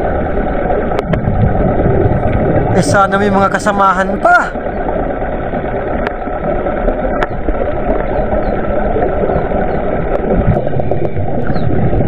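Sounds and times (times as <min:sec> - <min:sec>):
muffled underwater water rush: 0:00.0 - 0:12.0.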